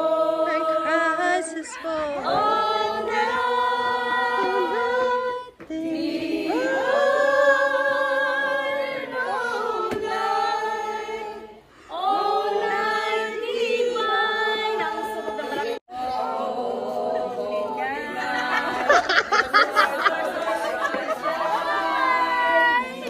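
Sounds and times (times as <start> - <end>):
group singing unaccompanied: 0.0 - 23.0.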